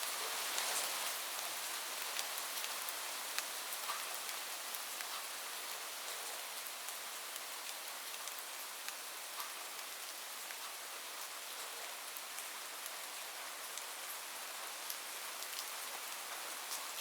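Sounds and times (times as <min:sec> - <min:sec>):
rain on a roof: 0:00.0 - 0:17.0.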